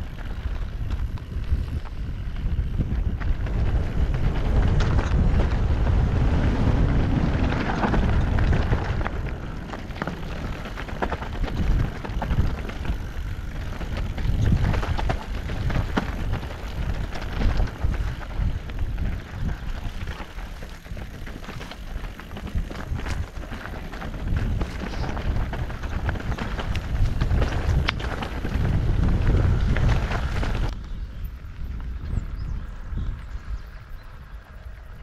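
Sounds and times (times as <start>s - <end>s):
tyres rolling over loose stones: 0.0s - 31.0s
bike rattling: 0.0s - 35.0s
wind buffeting microphone: 0.0s - 35.0s.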